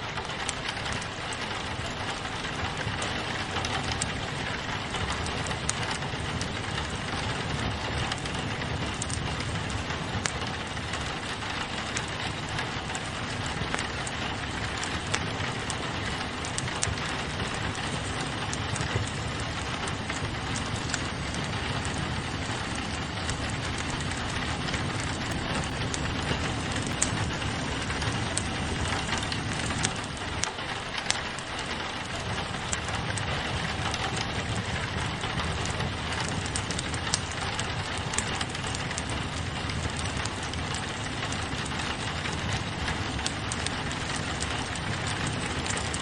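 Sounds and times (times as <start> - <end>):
rain pattering on a window: 0.0 - 46.0
wood fire crackling and popping: 0.0 - 46.0.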